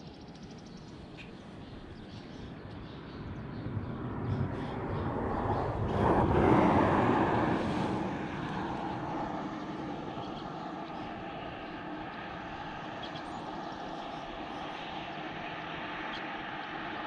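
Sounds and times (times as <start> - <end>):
steady background noise: 0.0 - 17.0
car passing: 3.2 - 17.0.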